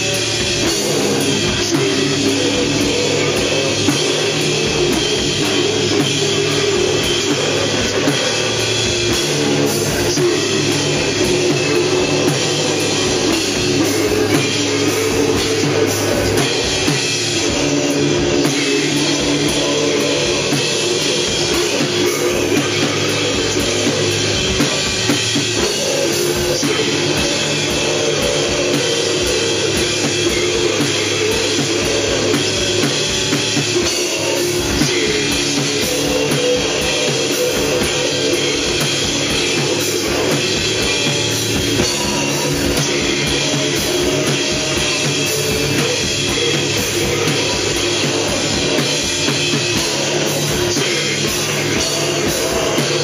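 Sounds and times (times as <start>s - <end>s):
drum kit: 0.0s - 53.0s
electric guitar: 0.0s - 53.0s
people singing into microphones: 0.0s - 53.0s.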